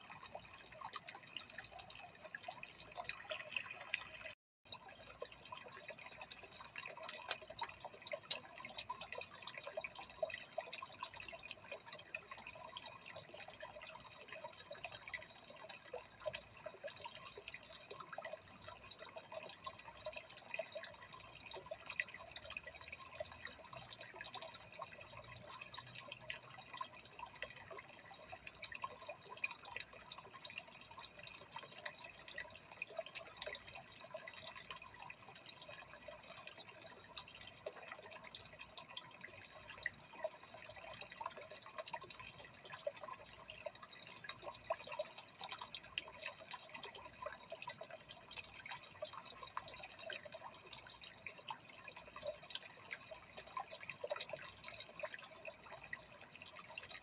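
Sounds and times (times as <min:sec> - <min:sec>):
aquarium drips and bubbles: 0:00.0 - 0:57.0.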